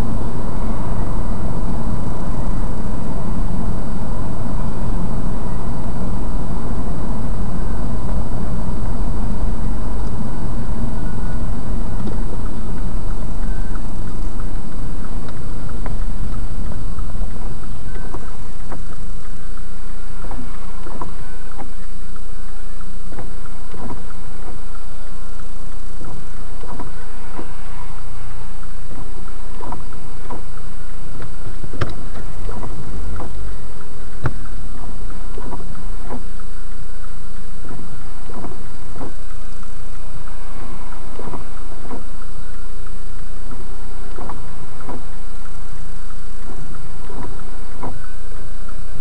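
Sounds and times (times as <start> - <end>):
engine and road hum: 0.0 - 49.0
light ticks: 0.1 - 49.0.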